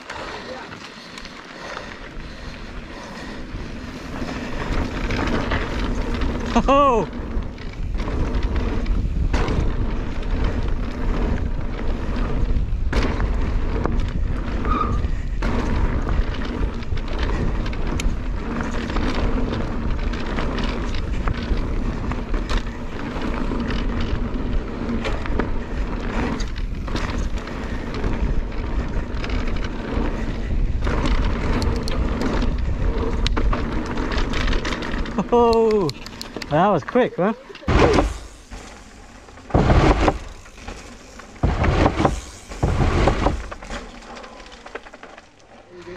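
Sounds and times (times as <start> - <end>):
bike tyres rumbling on gravel: 0.0 - 45.9
bike knocks and rattles: 3.9 - 36.6, 37.5 - 45.7.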